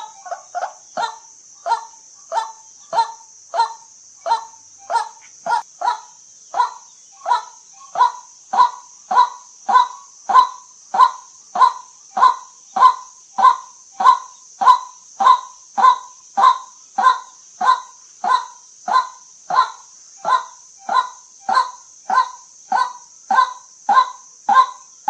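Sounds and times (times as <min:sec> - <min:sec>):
waterhen calling: 0:00.0 - 0:24.8
steady high hiss: 0:00.0 - 0:25.0.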